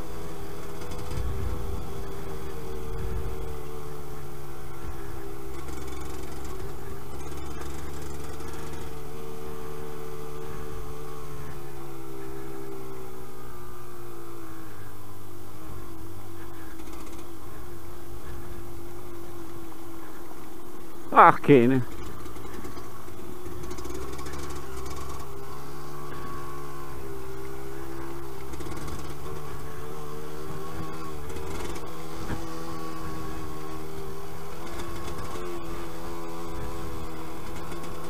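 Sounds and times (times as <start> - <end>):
two-stroke motorcycle engine running: 0.0 - 21.2, 21.8 - 38.0.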